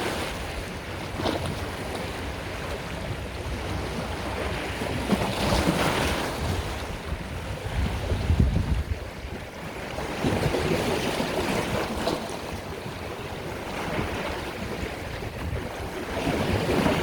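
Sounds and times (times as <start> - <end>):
sea waves washing in: 0.0 - 17.0.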